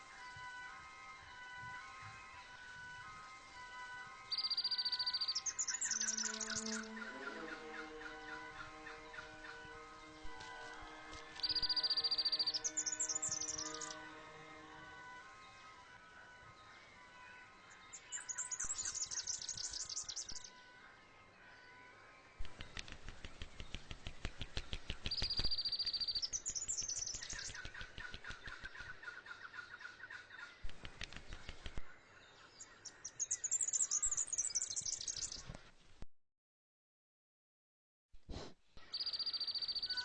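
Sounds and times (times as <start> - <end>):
birds chirping trills: 0.0 - 35.6, 38.8 - 40.0
faint background music: 0.0 - 35.7.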